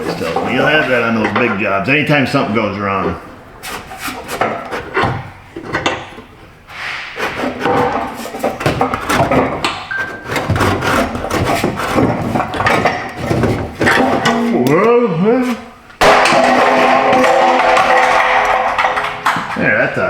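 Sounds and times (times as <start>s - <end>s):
metal knocks and clanks: 0.0s - 2.4s, 3.1s - 14.8s, 16.0s - 20.0s.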